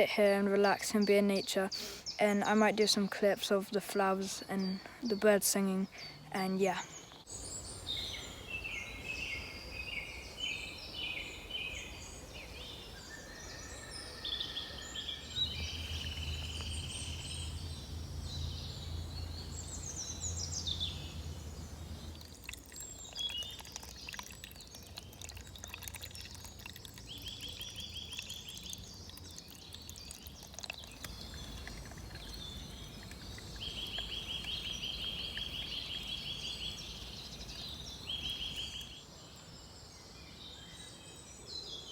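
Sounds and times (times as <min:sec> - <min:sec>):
birds singing: 0:00.0 - 0:41.9.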